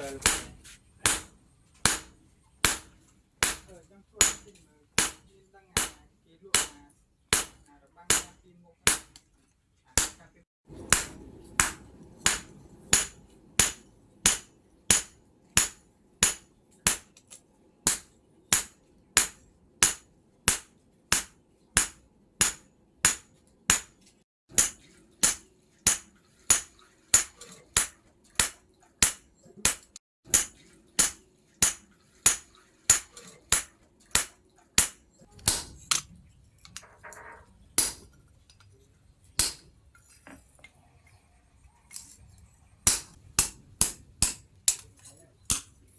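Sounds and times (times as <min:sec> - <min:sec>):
hammer striking steel on anvil: 0:00.0 - 0:09.3, 0:10.0 - 0:17.2, 0:17.9 - 0:35.8, 0:37.8 - 0:38.1, 0:39.4 - 0:39.7, 0:42.9 - 0:45.7.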